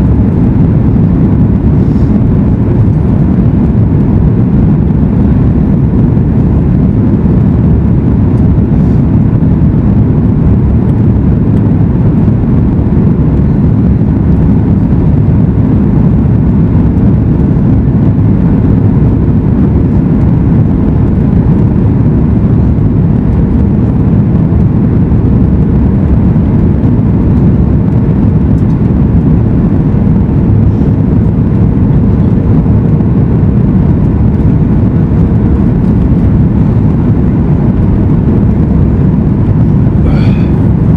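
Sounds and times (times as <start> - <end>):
faint steady hum: 0.0 - 40.9
jet engines and airflow rushing: 0.0 - 40.9.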